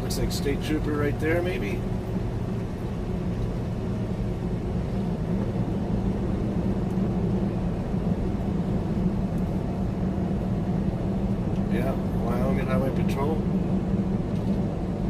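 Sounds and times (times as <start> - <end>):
truck engine and tyres droning: 0.0 - 15.0.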